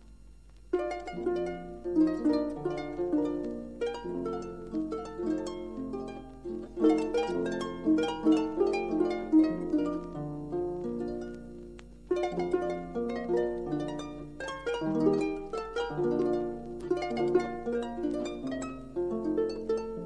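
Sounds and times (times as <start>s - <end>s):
faint low hum: 0.0s - 20.0s
solo harp folk tune: 0.7s - 20.0s.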